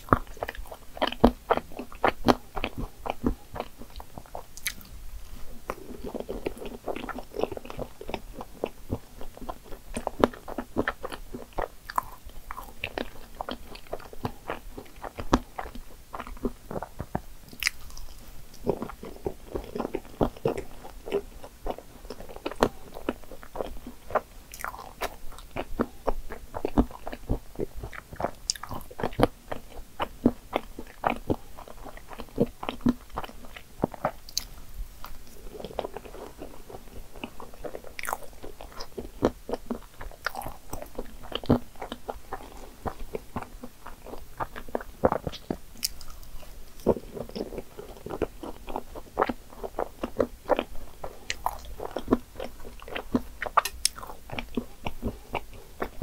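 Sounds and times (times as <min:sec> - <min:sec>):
close-miked chewing: 0:00.0 - 0:56.0.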